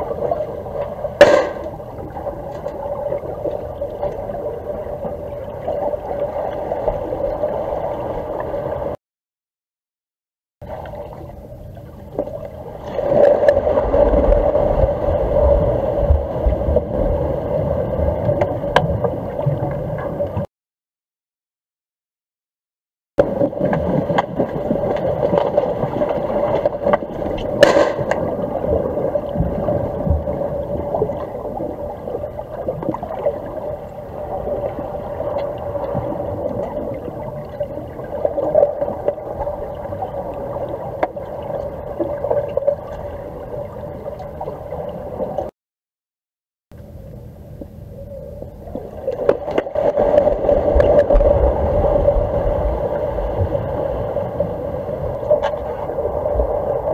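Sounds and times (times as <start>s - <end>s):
constant hum: 0.0s - 9.0s, 10.6s - 20.5s, 23.2s - 45.5s, 46.7s - 56.9s
underwater water noise: 0.0s - 9.0s, 10.6s - 20.5s, 23.2s - 45.5s, 46.7s - 56.9s
water gurgling: 0.0s - 9.0s, 10.6s - 20.5s, 23.2s - 45.5s, 47.6s - 56.9s.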